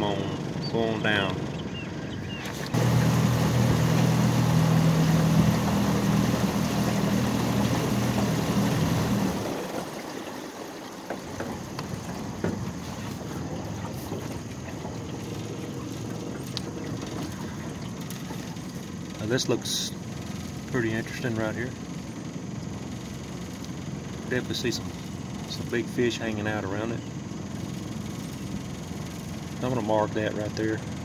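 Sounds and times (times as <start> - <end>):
outboard motor humming: 0.0 - 31.0
water noise: 0.0 - 31.0.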